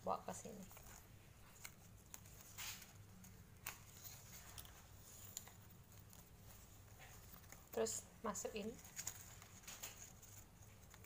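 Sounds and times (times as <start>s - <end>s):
palm-leaf strips rustling: 0.2s - 11.0s.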